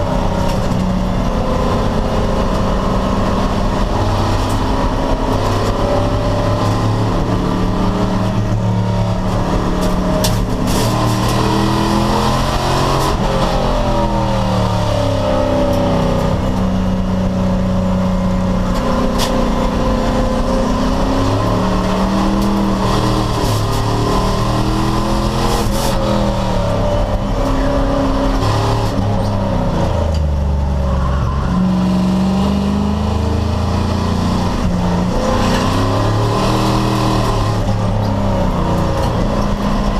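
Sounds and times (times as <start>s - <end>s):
race car engine under hard load: 0.0s - 39.9s.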